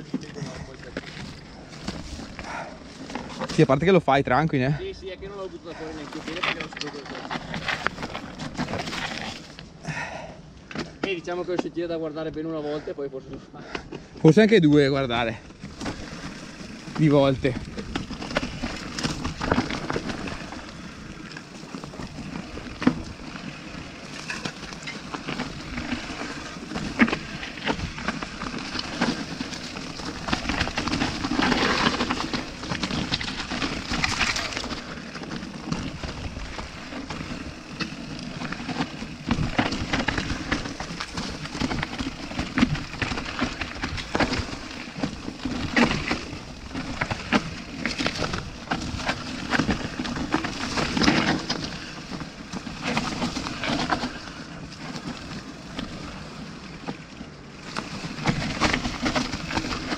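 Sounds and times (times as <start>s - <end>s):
tyres crunching over stones: 0.0s - 12.0s, 12.6s - 59.9s
bike rattling over bumps: 0.0s - 12.8s, 13.4s - 59.9s.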